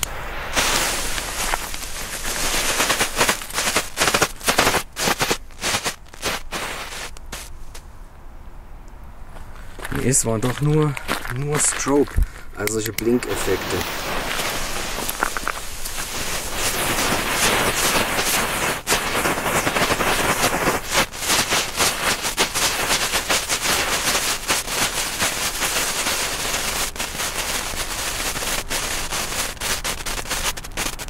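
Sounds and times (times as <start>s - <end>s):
firework crackling and popping: 0.0s - 7.5s, 9.8s - 31.0s
firework hissing: 0.0s - 7.5s, 13.0s - 31.0s.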